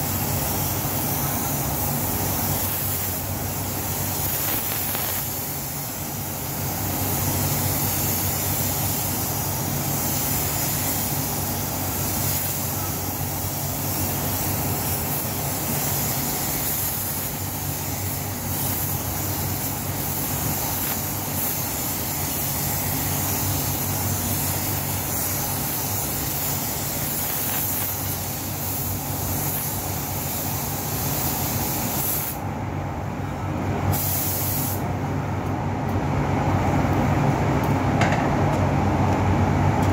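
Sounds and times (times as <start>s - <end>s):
paint spray gun hissing: 0.0s - 32.4s, 33.9s - 34.8s
ventilation hum: 0.0s - 39.9s.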